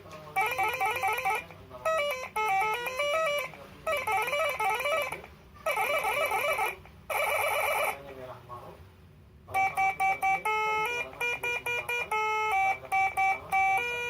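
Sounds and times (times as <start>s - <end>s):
electronic horn tone melodies: 0.4s - 7.9s, 9.6s - 14.0s.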